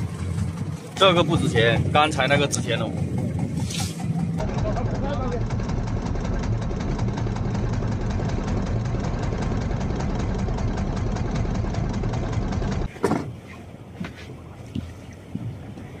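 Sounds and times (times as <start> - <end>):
boat engine knocking: 0.0 - 13.4.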